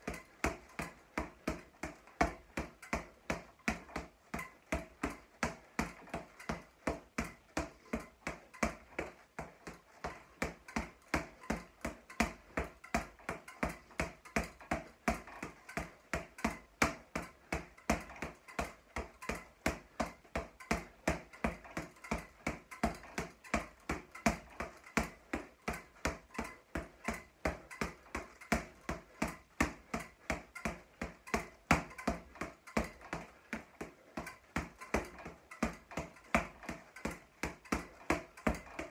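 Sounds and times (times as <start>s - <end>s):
boxing gloves striking punching ball: 0.0s - 38.9s.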